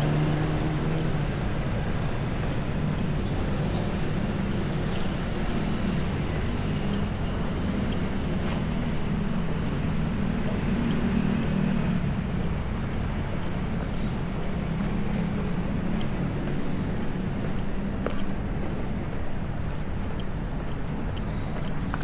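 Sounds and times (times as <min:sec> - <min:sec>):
passing vehicle engines rumbling: 0:00.0 - 0:22.0.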